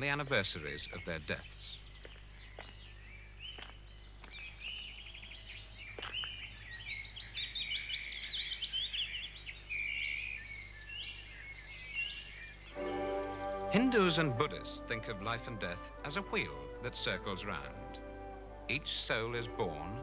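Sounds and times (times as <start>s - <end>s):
birds chirping and trilling: 0.0s - 20.0s.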